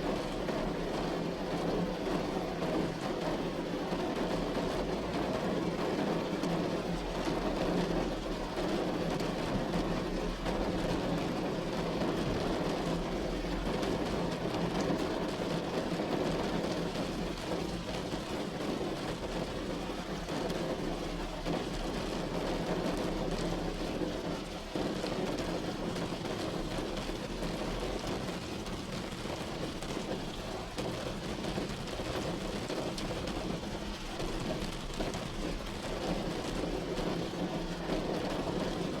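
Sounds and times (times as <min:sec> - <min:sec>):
rain falling on a roof: 0:00.0 - 0:39.0.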